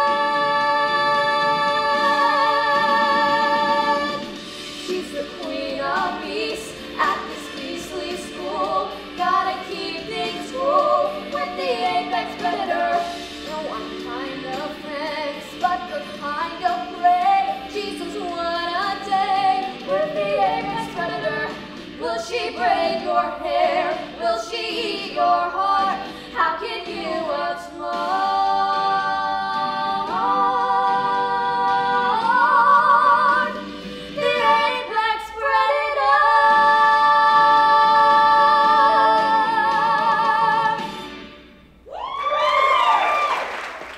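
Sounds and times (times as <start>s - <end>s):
girls singing a duet in harmony: 0.0s - 41.4s.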